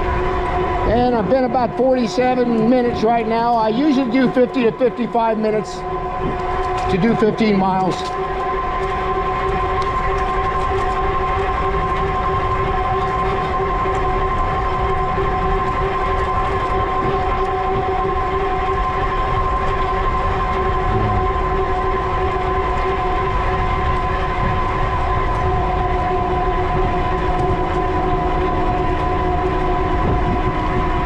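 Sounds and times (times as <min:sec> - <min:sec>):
electric bike motor whine: 0:00.0 - 0:31.0
wind and rolling noise: 0:00.0 - 0:31.0.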